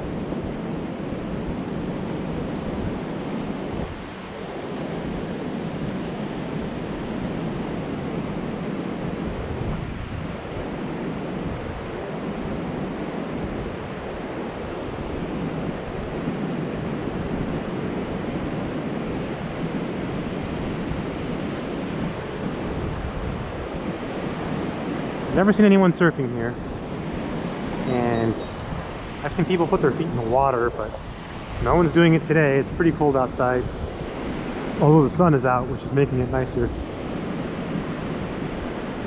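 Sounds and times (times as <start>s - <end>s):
ocean surf washing onto beach: 0.0s - 39.0s
wind buffeting microphone: 0.0s - 39.0s.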